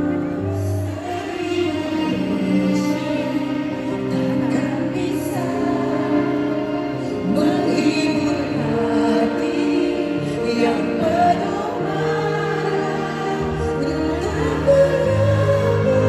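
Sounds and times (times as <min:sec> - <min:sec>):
band playing sustained chords: 0:00.0 - 0:16.0
woman singing: 0:00.0 - 0:16.0.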